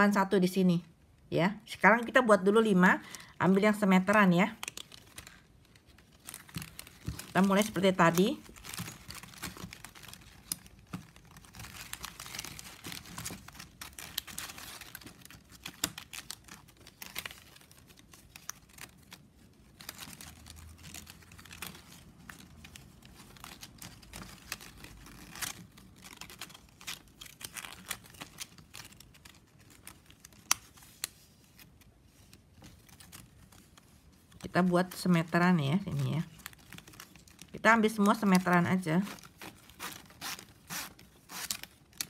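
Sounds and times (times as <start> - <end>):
plastic strapping crinkling and scraping: 1.8 - 42.0.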